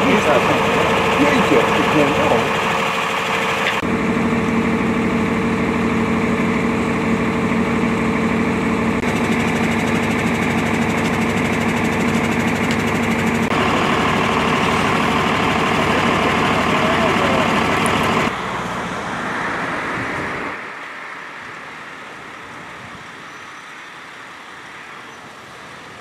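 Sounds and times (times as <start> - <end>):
vehicle engines idling: 0.0 - 26.0.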